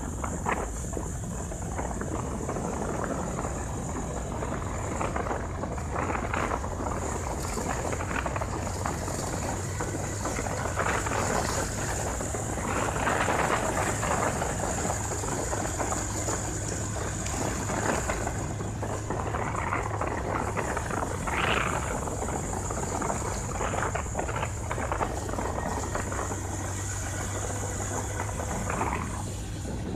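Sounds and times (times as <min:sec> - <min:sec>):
tyres and wind rushing: 0:00.0 - 0:29.9
vehicle engine hum: 0:00.0 - 0:29.9.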